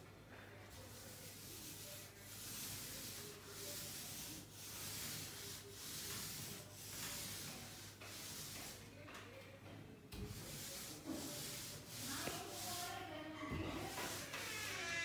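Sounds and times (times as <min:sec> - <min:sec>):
paint roller swishing: 0:00.7 - 0:08.9, 0:10.2 - 0:15.0.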